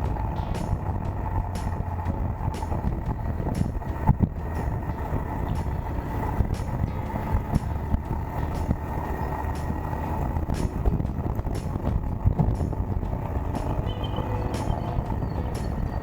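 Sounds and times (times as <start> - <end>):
motorcycle engine rumble: 0.0 - 16.0
wind noise on microphone: 0.0 - 16.0.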